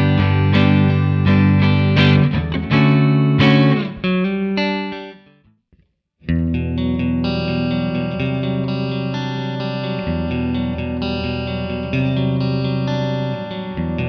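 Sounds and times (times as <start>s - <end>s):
clean electric guitar: 0.0s - 14.0s.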